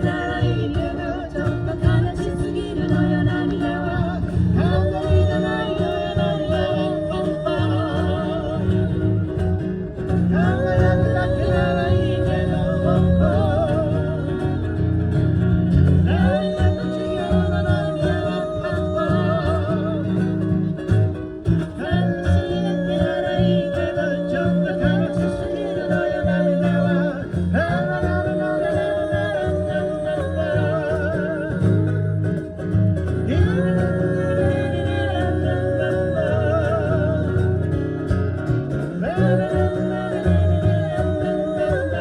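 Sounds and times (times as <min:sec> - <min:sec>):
acoustic guitar chords: 0:00.0 - 0:42.0
person singing with vibrato: 0:00.0 - 0:42.0.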